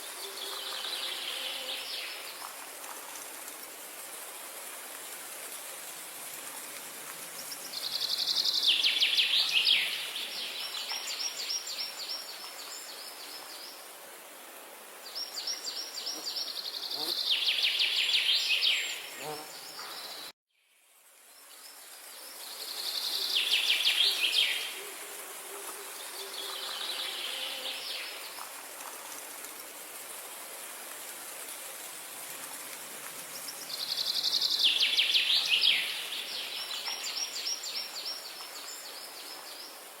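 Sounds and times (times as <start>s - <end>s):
high hiss of nature ambience: 0.0s - 40.0s.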